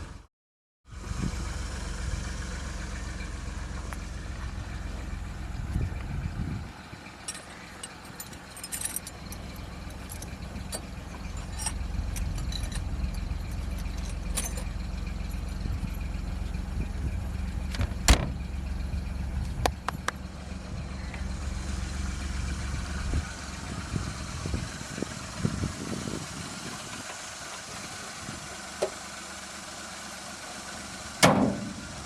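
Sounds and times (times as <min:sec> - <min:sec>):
car engine humming: 0:00.9 - 0:32.0.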